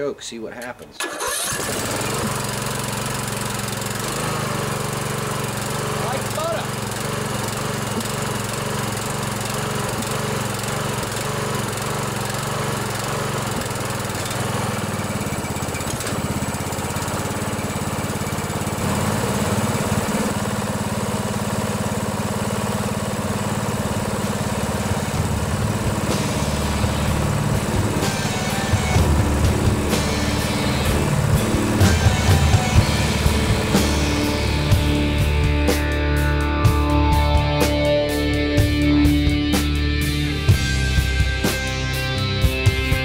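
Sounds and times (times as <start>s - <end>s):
lawnmower engine running: 0.6s - 43.0s.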